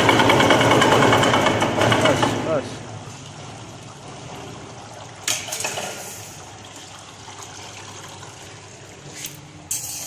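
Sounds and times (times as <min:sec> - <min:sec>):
coolant running in tank: 0:00.0 - 0:09.8.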